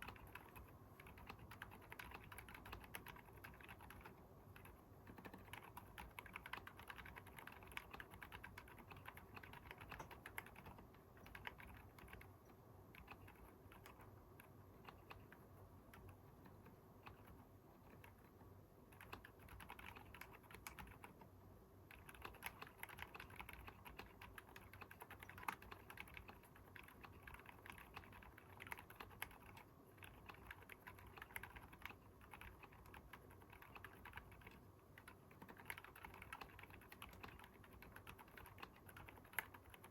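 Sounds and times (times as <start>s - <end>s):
muffled keyboard typing: 0.0s - 39.9s.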